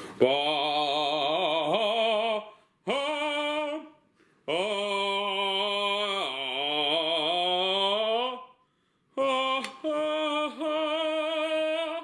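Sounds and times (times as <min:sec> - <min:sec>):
person singing operatic notes: 0:00.2 - 0:08.5, 0:09.2 - 0:12.0.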